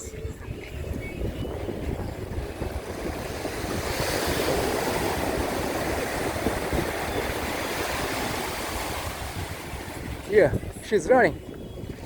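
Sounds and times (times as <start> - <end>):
wind buffeting microphone: 0.0 - 12.0
surf breaking on shore: 1.4 - 11.2.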